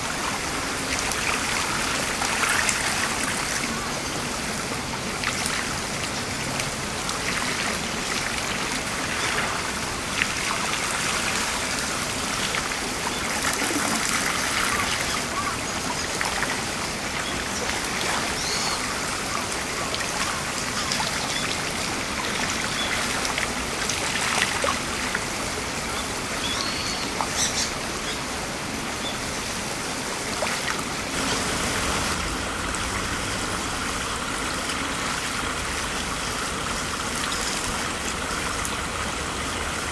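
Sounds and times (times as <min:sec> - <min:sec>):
stream trickling over gravel: 0:00.0 - 0:39.9.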